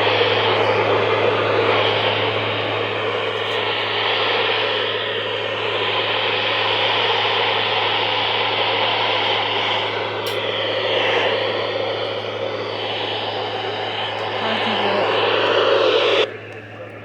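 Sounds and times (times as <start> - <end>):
low hum: 0.0 - 17.0
radio static hiss: 0.0 - 17.0.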